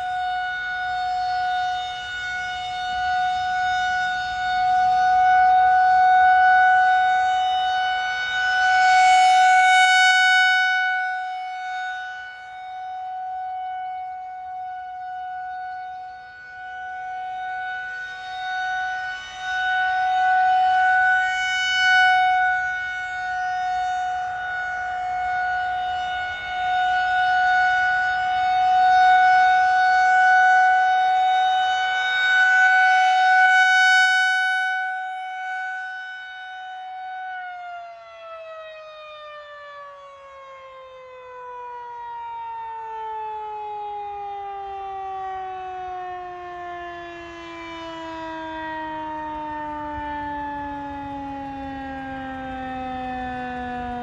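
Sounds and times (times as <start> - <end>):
siren winding down: 0.0 - 54.0
warning siren test tone: 0.0 - 54.0.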